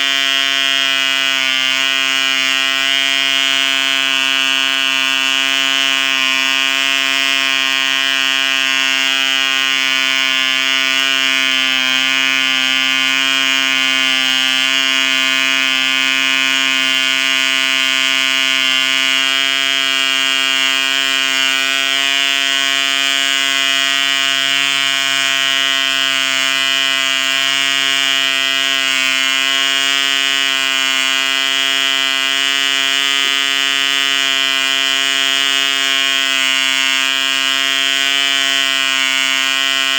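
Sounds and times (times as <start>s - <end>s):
model engine high-pitched buzz: 0.0s - 39.9s.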